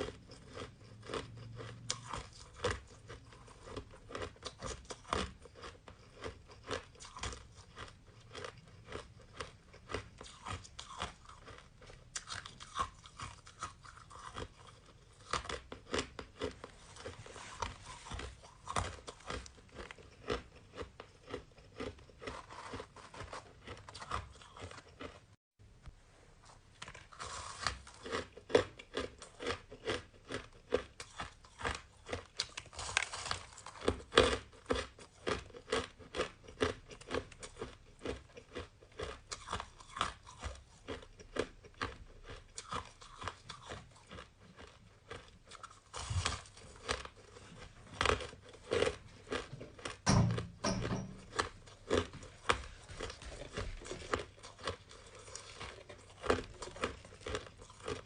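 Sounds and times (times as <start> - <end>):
shaved ice crunched and chewed: 0.0 - 25.2, 26.8 - 49.9, 51.4 - 58.0.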